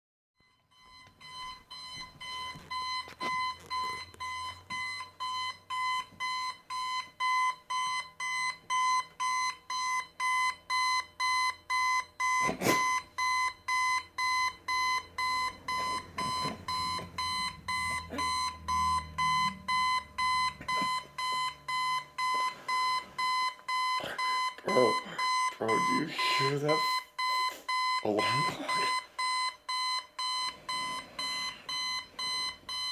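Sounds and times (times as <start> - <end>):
alarm clock beeping rapidly: 0.4 - 32.9.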